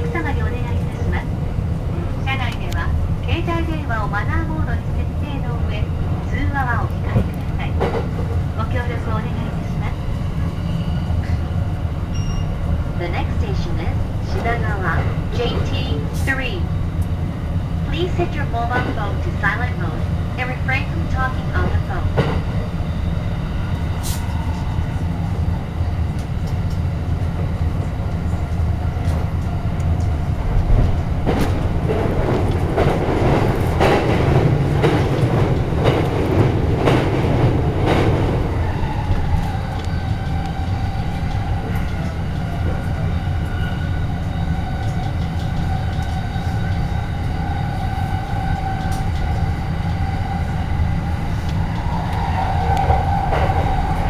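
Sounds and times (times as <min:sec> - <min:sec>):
train low rumble: 0:00.0 - 0:54.0
train steady whine: 0:00.0 - 0:54.0.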